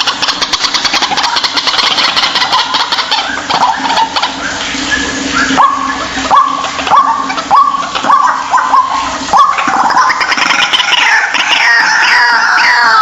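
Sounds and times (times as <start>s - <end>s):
bird calling rising notes: 0.0s - 13.0s
steady hiss: 0.0s - 13.0s.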